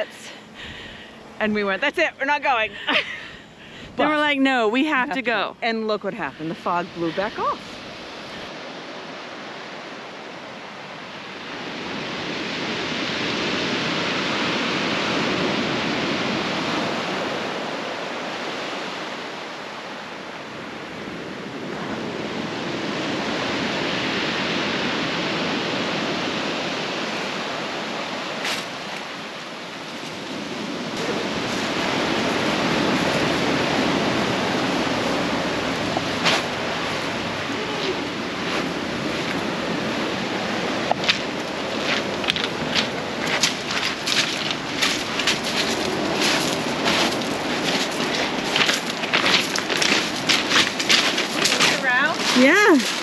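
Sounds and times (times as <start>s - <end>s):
sea surf on rocky shore: 0.0s - 53.0s.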